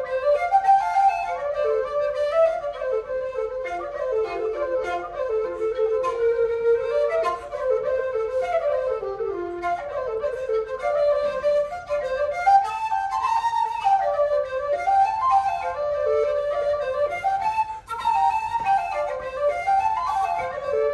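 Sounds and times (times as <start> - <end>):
fast wind instrument melody: 0.0 - 20.9
plucked string accompaniment: 0.0 - 20.9.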